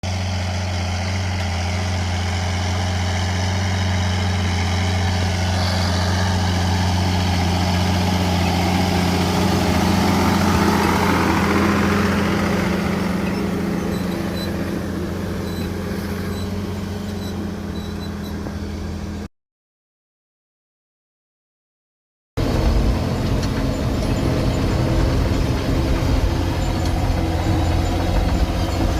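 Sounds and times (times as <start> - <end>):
tractor diesel engine running: 0.0 - 19.3, 22.4 - 28.9.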